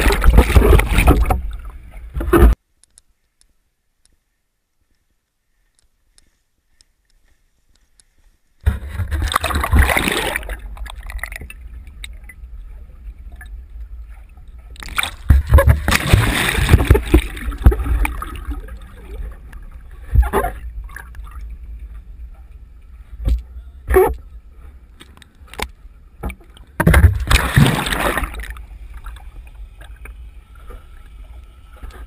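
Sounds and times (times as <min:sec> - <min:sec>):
water sloshing underwater: 0:00.0 - 0:02.6, 0:08.0 - 0:32.0.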